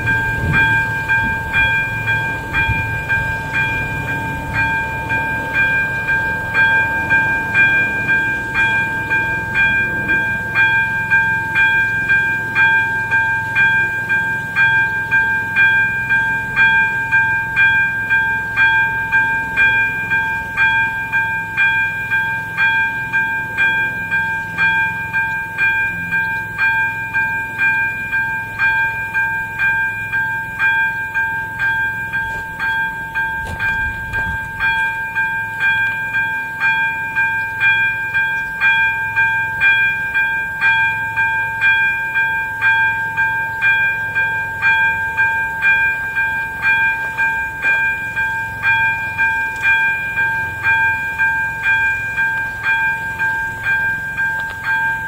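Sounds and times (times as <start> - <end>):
level crossing bell ringing: 0.0 - 55.0.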